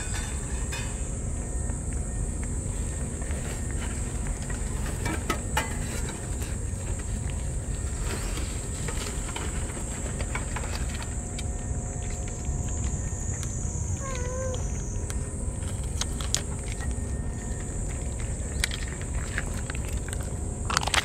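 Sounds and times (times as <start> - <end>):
high insect drone: 0.0 - 21.0
cats chewing and licking: 1.7 - 21.0.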